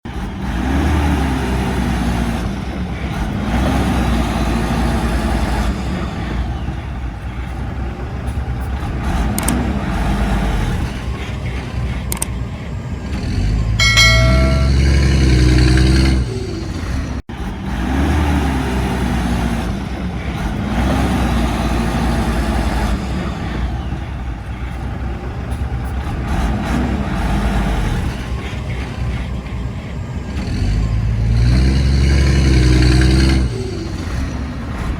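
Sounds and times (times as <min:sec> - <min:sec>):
heavy machinery diesel engines: 0:00.0 - 0:34.9.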